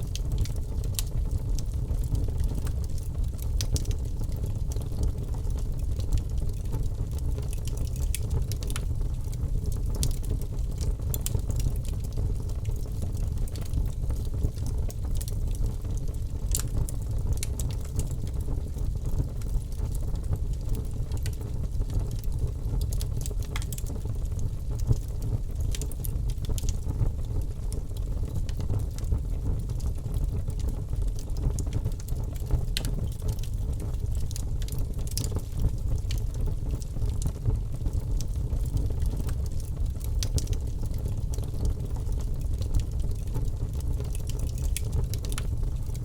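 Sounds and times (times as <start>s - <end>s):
logs crackling and popping: 0.0s - 46.0s
rumble of fire flames: 0.0s - 46.0s.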